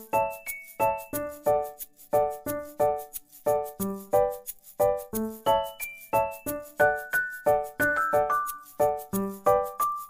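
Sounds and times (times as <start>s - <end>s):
light ticking beat: 0.0s - 10.0s.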